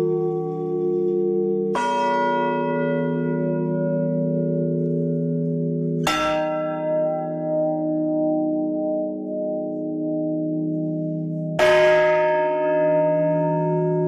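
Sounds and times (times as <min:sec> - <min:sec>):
church bell tolling: 0:00.0 - 0:14.0.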